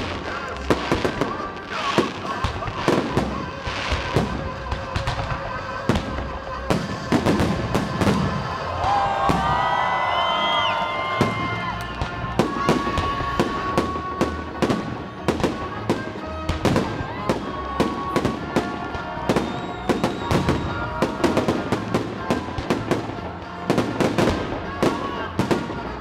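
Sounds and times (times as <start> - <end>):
fireworks bursting with sharp bangs: 0.0 - 26.0
music playing: 0.0 - 26.0.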